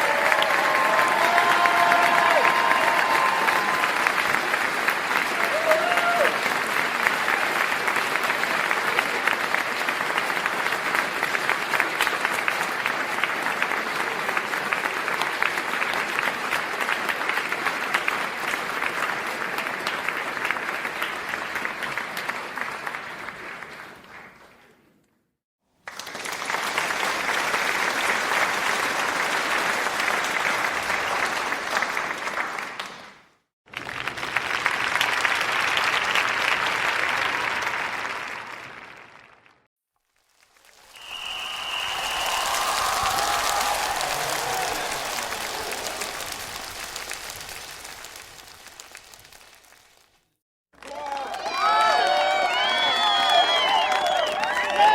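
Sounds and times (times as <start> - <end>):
crowd applauding: 0.0 - 24.4, 25.8 - 54.9.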